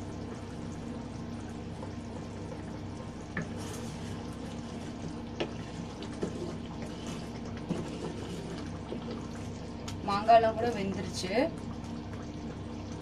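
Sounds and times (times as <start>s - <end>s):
curry bubbling in a pot: 0.0s - 13.0s
steady low hum: 0.0s - 13.0s.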